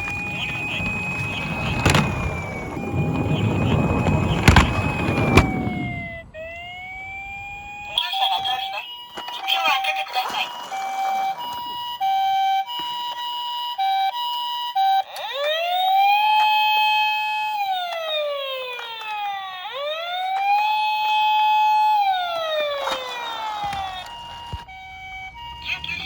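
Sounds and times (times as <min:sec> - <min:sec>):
toy police siren wails: 0:00.0 - 0:26.0
toy siren beeping: 0:00.0 - 0:26.0.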